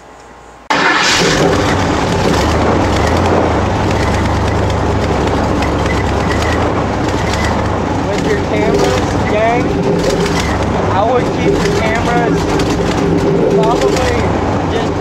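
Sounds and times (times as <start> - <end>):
airboat engine and propeller: 1.0 - 15.0
wind buffeting microphone: 1.4 - 15.0.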